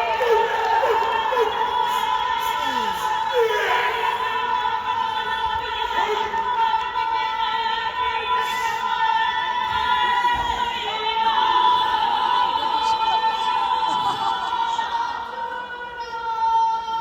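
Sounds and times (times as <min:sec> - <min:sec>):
operatic singing voice: 0:00.0 - 0:17.0.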